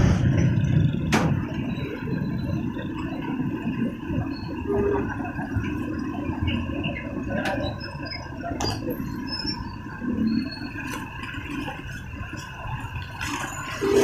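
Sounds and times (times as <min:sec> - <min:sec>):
motorcycle engines humming: 0:00.0 - 0:14.0
traffic rushing noise: 0:00.0 - 0:14.0.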